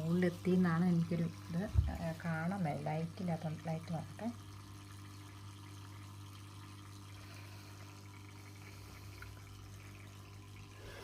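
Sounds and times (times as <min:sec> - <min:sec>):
fountain pump humming: 0:00.0 - 0:11.0
water trickling: 0:00.0 - 0:11.0.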